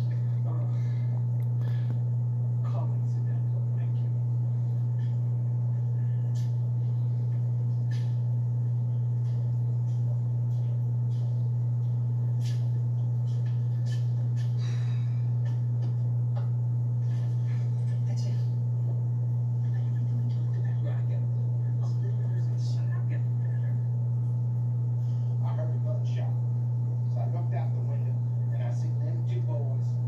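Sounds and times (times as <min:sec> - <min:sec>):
aquarium equipment humming: 0:00.0 - 0:30.0.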